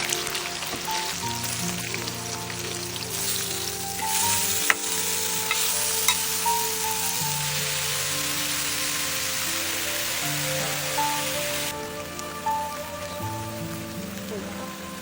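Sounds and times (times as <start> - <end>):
heavy rain on hard surfaces: 0.0 - 15.0
music with long held notes: 0.0 - 15.0.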